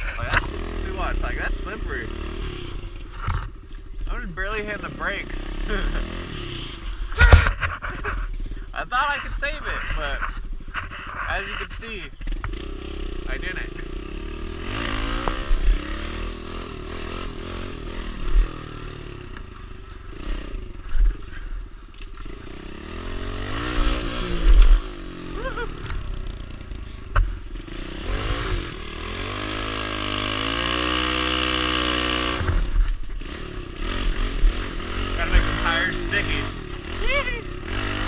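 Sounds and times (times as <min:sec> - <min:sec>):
small motorbike engine revving: 0:00.0 - 0:03.5, 0:04.4 - 0:08.1, 0:12.2 - 0:38.0.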